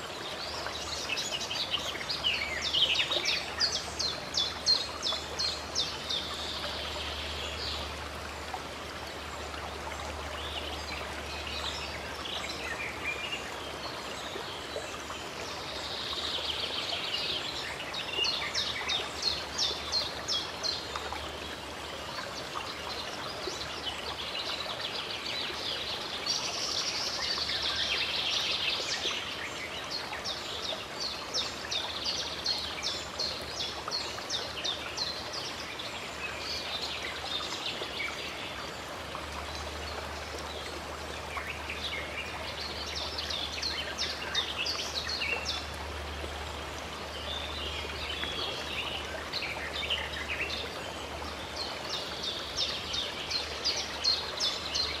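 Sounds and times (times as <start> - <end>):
songbirds singing: 0.0 - 55.0
stream water rushing: 0.0 - 55.0.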